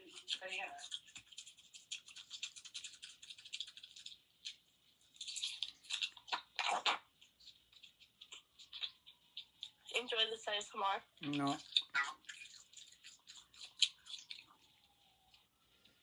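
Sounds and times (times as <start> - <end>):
mouth chewing food: 0.0 - 16.0.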